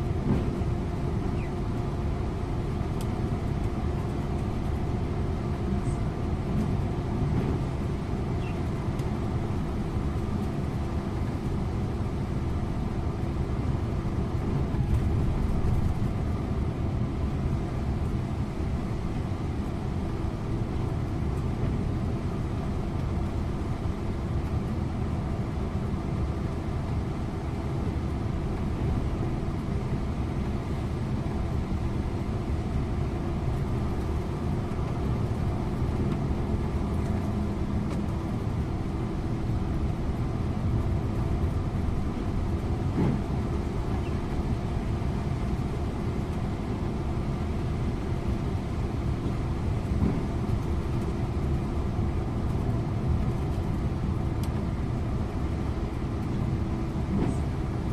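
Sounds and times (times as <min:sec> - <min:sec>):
diesel engine drone: 0:00.0 - 0:57.9
road noise: 0:00.0 - 0:57.9.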